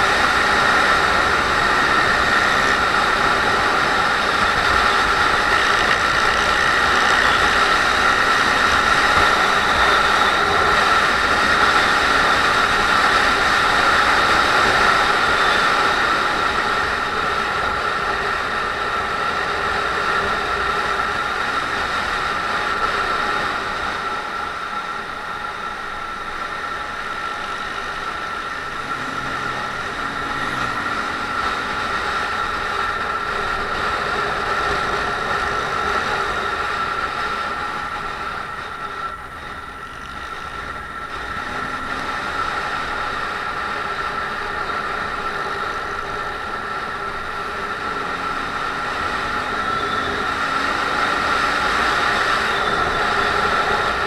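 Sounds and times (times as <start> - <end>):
motorcycle engine cruising: 0.0 - 54.0
wind noise: 0.0 - 54.0.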